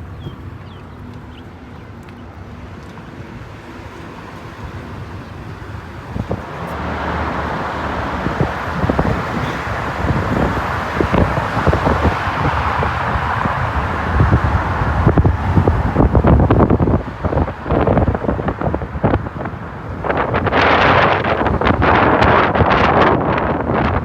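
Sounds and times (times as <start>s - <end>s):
road traffic: 0.0s - 24.0s
wind buffeting microphone: 0.0s - 24.0s.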